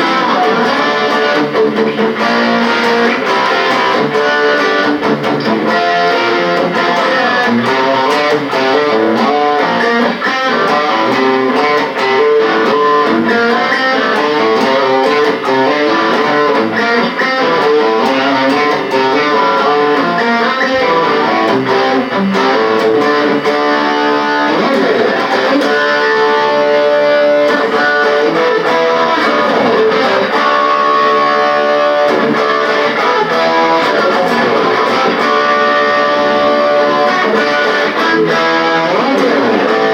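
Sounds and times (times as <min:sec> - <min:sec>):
plucked guitar music: 0:00.0 - 0:39.9.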